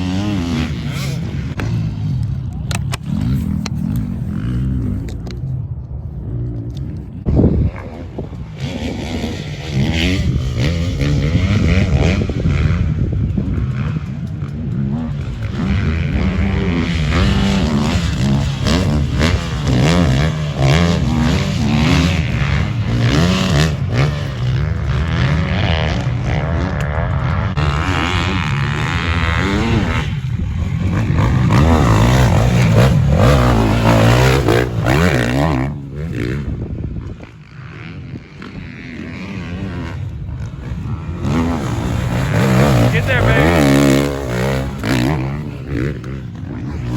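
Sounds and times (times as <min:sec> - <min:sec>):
motocross bike engines revving: 0:00.0 - 0:46.9.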